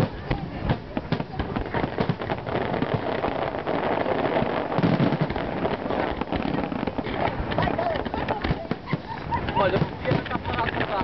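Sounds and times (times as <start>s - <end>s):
deep fireworks bangs: 0.0s - 11.0s
fireworks crackling and popping: 0.0s - 11.0s.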